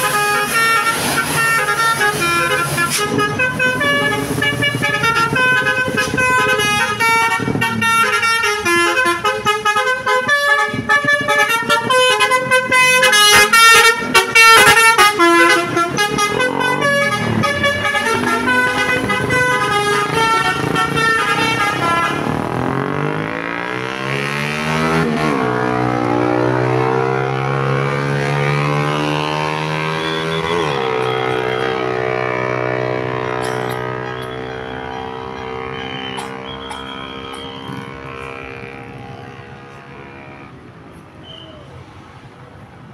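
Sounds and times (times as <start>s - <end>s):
multi-note musical horn: 0.0s - 22.9s, 26.2s - 40.5s.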